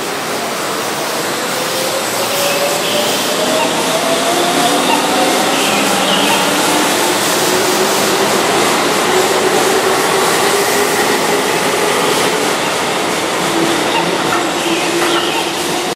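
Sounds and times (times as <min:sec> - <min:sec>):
electric train running: 0:00.0 - 0:15.9.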